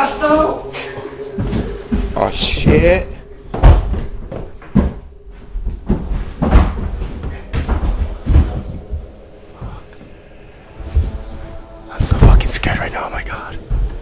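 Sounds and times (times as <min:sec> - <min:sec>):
hurried footsteps on wooden stairs: 0:00.0 - 0:10.2, 0:10.8 - 0:12.6, 0:13.2 - 0:14.0.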